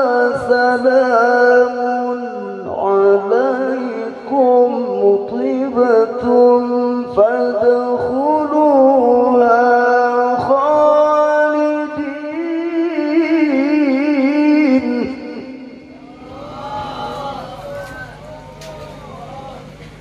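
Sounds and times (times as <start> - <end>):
man chanting recitation: 0.0 - 18.2.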